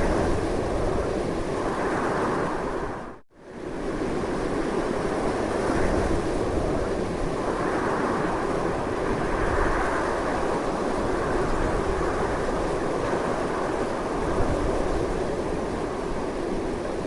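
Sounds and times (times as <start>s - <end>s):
strong wind roaring: 0.0s - 17.0s.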